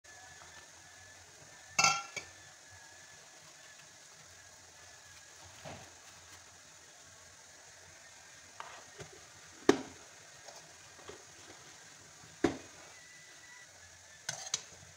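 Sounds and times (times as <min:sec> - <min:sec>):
faint steady hiss: 0:00.1 - 0:14.9.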